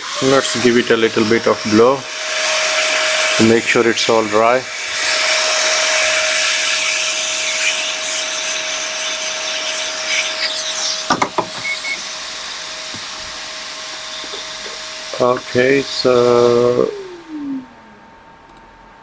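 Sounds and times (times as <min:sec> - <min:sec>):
air blower rushing hiss: 0:00.0 - 0:18.3
thin steady whine: 0:00.0 - 0:18.7.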